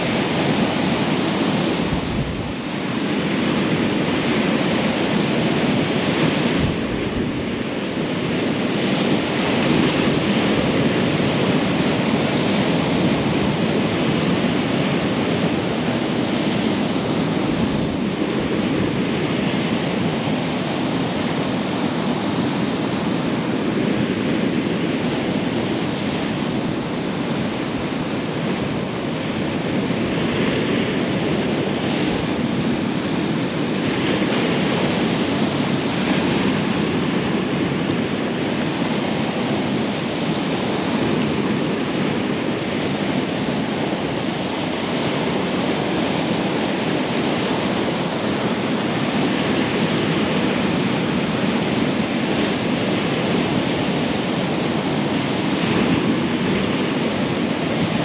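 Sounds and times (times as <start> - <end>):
waves breaking on rocky shore: 0.0 - 58.0.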